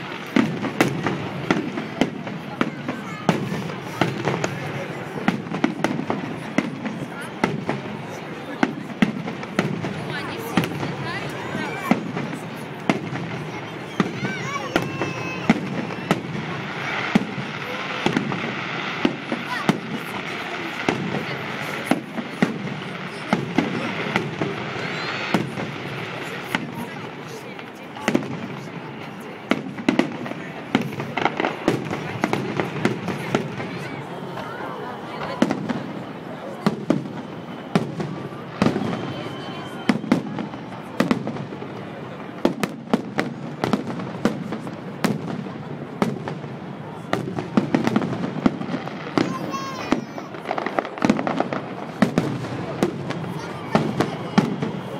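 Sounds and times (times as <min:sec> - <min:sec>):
fireworks bangs: 0:00.0 - 0:54.9
steady background din: 0:00.0 - 0:54.9.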